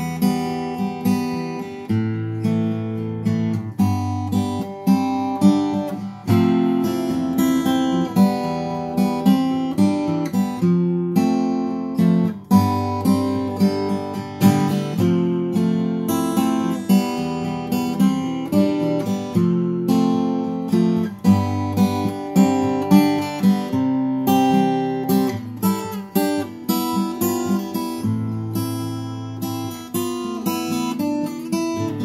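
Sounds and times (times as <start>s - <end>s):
fingerstyle acoustic guitar: 0.0s - 32.0s.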